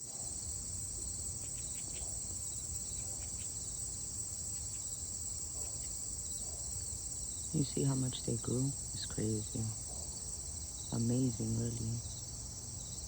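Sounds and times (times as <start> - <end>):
insects chirring: 0.3 - 13.0.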